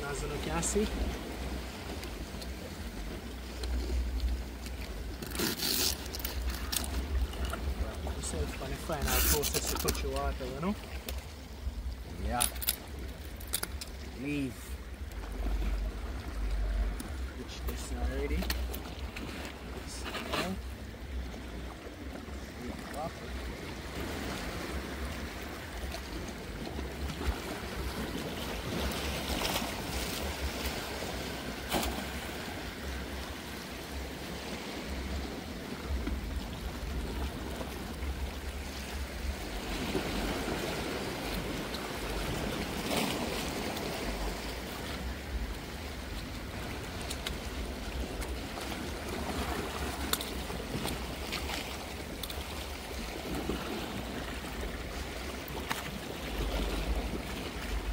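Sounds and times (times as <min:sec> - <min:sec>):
sea water washing on shore: 0:00.0 - 0:57.9
wind rumbling on microphone: 0:00.0 - 0:57.9.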